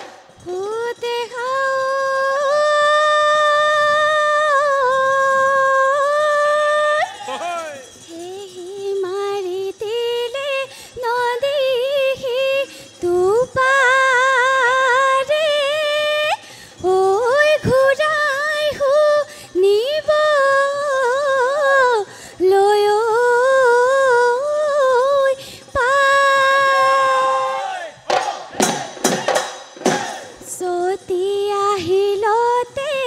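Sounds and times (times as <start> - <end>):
woman singing into microphone: 0.4 - 7.0, 8.1 - 27.5, 30.4 - 33.0.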